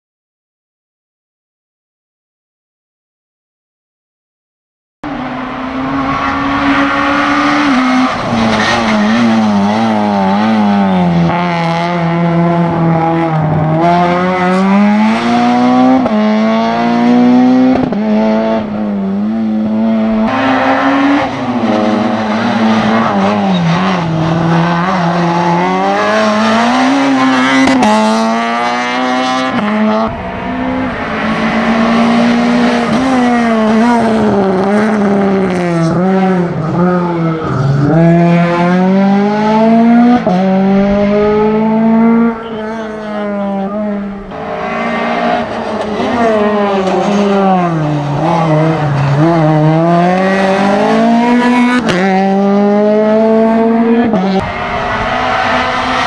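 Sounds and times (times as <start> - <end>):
race car engines revving: 5.0 - 56.0.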